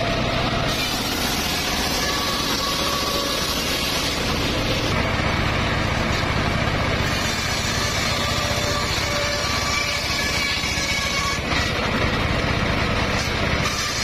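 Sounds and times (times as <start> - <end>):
circular sawmill running: 0.0 - 14.0.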